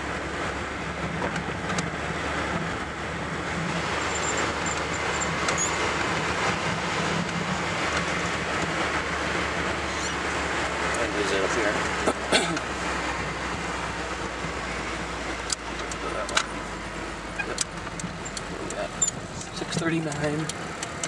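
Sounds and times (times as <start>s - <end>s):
car engine drone inside cabin: 0.0s - 21.0s.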